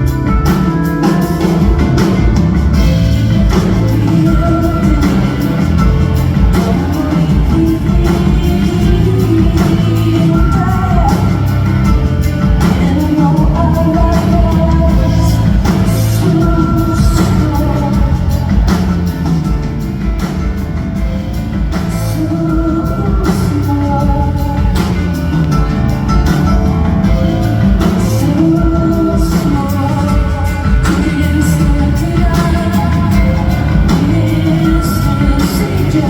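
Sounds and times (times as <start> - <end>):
rock band playing: 0.0 - 36.0
woman singing: 0.0 - 36.0.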